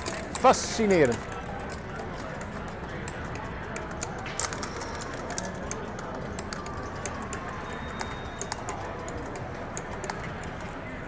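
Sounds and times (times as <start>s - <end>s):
pinball mechanisms clicking: 0.0s - 10.8s
exhibition hall hubbub: 0.0s - 11.0s.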